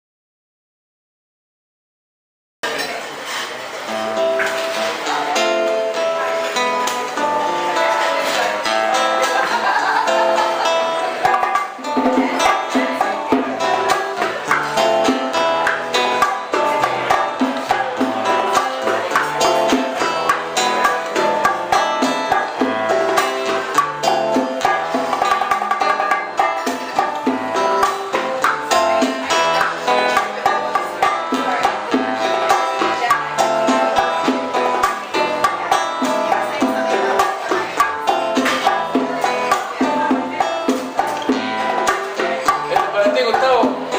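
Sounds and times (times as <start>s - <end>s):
percussion rhythm: 2.6s - 43.9s
plucked strings: 2.6s - 43.9s
live band playing cuban music: 2.7s - 43.9s.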